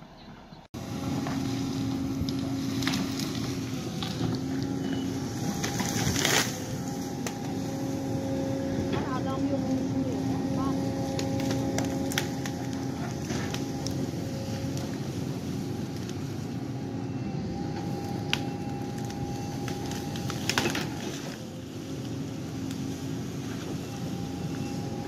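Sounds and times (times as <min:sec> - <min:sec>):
excavator diesel engine running: 0:00.0 - 0:25.0
hydraulic whine: 0:00.8 - 0:25.0.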